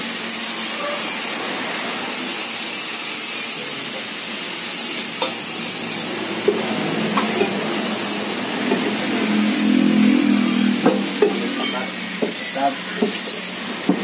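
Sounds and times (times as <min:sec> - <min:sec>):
welding crackling sizzle: 0:00.0 - 0:14.0.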